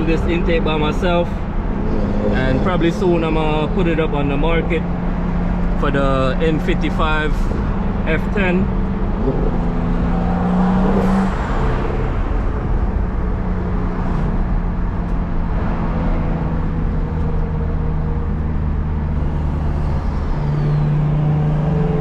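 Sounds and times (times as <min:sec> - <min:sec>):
car engine running while driving: 0:00.0 - 0:22.0.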